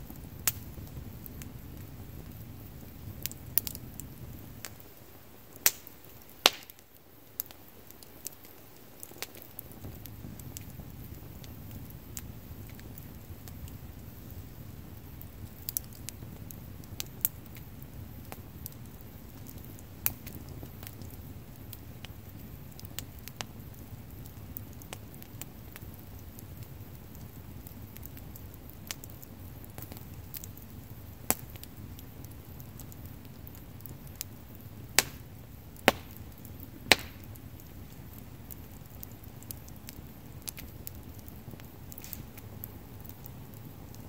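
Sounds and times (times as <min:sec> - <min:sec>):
bonfire flames rushing: 0:00.0 - 0:44.0
burning sticks crackling and popping: 0:00.0 - 0:44.0.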